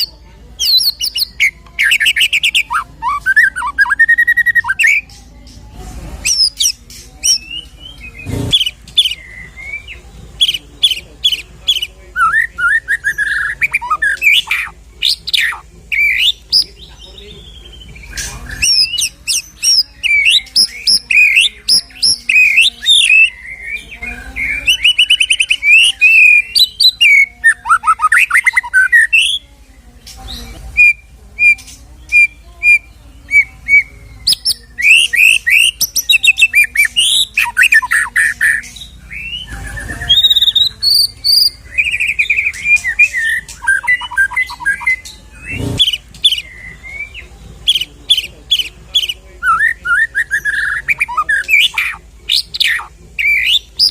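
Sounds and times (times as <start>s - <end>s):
bird singing trills and whistles: 0.0s - 5.6s, 6.2s - 53.9s.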